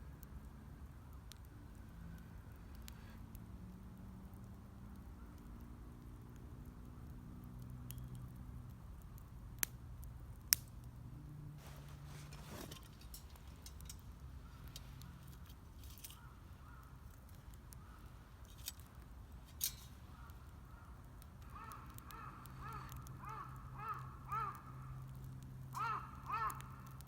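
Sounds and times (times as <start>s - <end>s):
wood fire crackling: 0.0s - 27.0s
sharp pops from fire: 0.2s - 27.0s.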